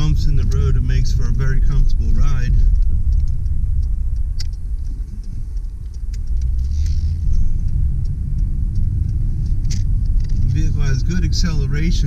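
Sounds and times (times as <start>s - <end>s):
car clicks and knocks over bumps: 0.0s - 12.0s
road and tyre rumble: 0.0s - 12.0s.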